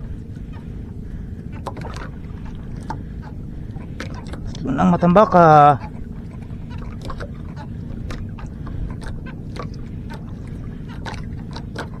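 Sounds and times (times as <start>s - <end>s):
light clicks and knocks on boat: 0.0s - 12.0s
small engine rumbling: 0.0s - 12.0s.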